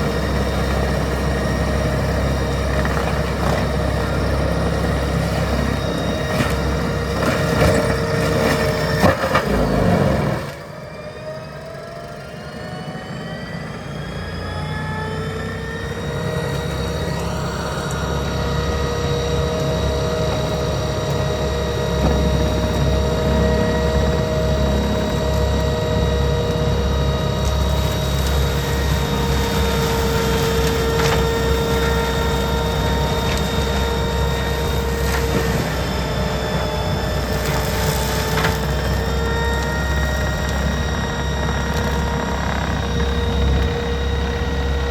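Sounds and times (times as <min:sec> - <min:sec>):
diesel engine rumbling and whining: 0:00.0 - 0:44.9.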